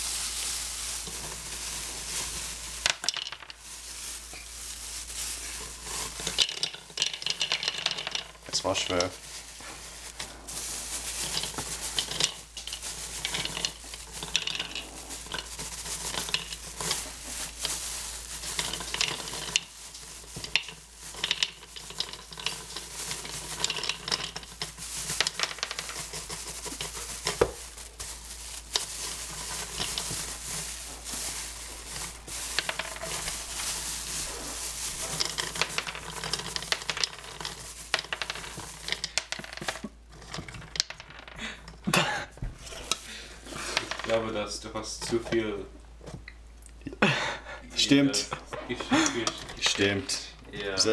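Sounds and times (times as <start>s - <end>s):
nuts rattling into plastic bowl: 0.0s - 9.3s, 10.4s - 41.8s, 43.6s - 45.3s, 48.9s - 49.9s
plastic bag crinkling: 0.0s - 45.3s, 48.2s - 50.9s.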